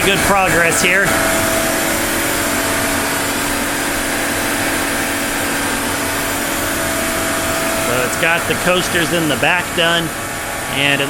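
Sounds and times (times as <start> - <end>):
machine cutting wood: 0.0 - 11.0
router spindle whine: 0.0 - 11.0.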